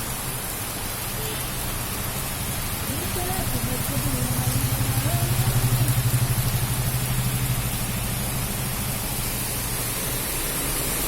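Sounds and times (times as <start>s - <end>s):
rain falling: 0.0s - 11.0s
vehicle engine running: 1.8s - 11.0s.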